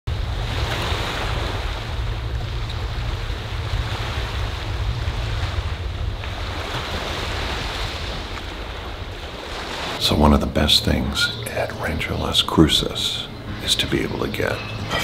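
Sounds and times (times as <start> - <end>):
wind rumbling on microphone: 0.1 - 13.6
waves washing onto rocky shore: 0.1 - 15.0.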